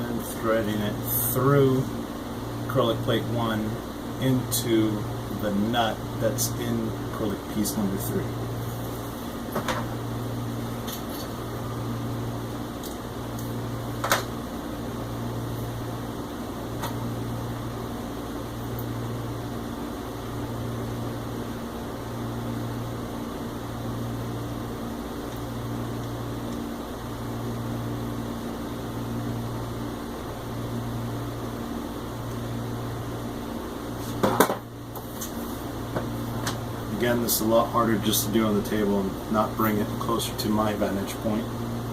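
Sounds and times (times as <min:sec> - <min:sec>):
fan whirring hiss: 0:00.0 - 0:41.9
low mechanical hum: 0:00.0 - 0:41.9.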